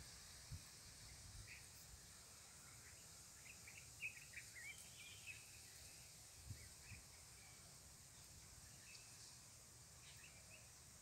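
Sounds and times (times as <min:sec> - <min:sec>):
steady high hiss: 0:00.0 - 0:11.0
faint bird chirps: 0:01.0 - 0:09.4, 0:10.0 - 0:10.8.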